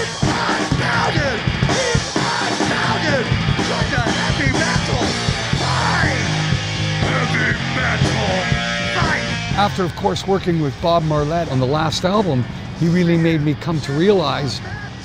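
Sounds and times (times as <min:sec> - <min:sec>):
heavy metal band playing: 0:00.0 - 0:14.3.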